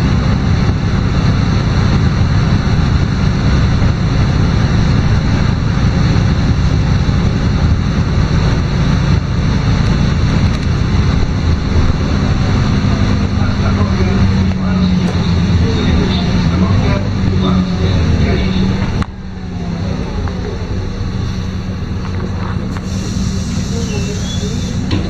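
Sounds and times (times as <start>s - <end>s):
bus diesel engine drone: 0.0s - 25.0s
tyre and road noise: 0.0s - 25.0s.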